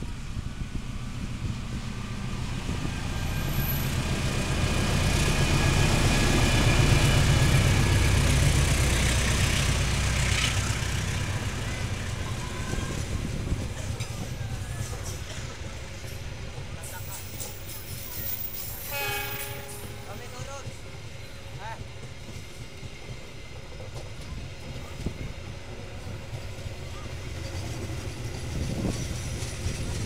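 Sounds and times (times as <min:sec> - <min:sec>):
locomotive engine rumble: 0:00.0 - 0:30.0
train coaches rolling by: 0:00.0 - 0:30.0.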